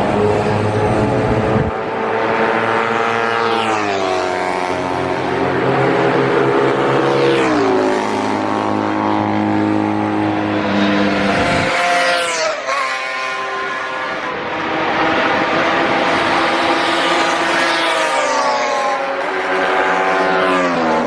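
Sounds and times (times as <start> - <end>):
motorcycle engines racing: 0.0 - 21.0
motorcycle passing with falling whine: 0.0 - 21.0.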